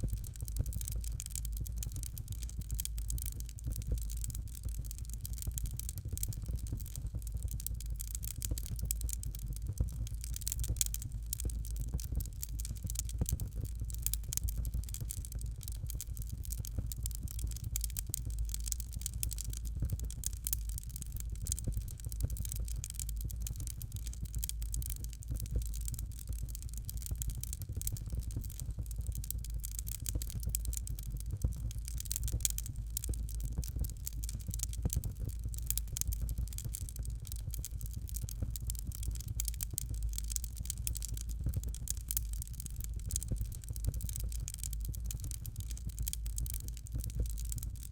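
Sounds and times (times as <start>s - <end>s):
fire crackling: 0.0s - 47.9s.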